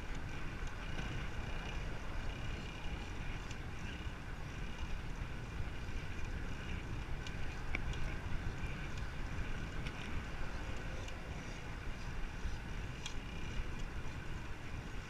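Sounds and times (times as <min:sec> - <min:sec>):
faint ticks: 0:00.0 - 0:15.0
road noise: 0:00.0 - 0:15.0
wind buffeting microphone: 0:00.0 - 0:15.0.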